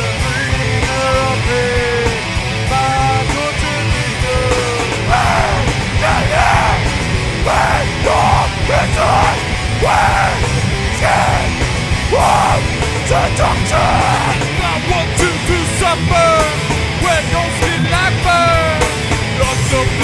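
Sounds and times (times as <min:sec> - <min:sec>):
hard rock band playing: 0:00.0 - 0:20.0
singer yelling: 0:00.0 - 0:20.0.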